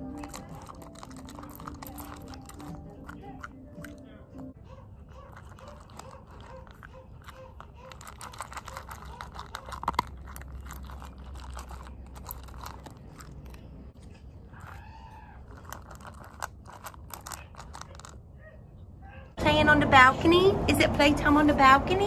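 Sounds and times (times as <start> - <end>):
dog crunching kibble: 0.0 - 18.5.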